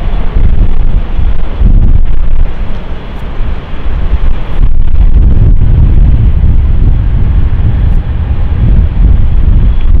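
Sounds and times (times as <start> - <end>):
storm wind buffeting microphone: 0.0 - 10.0.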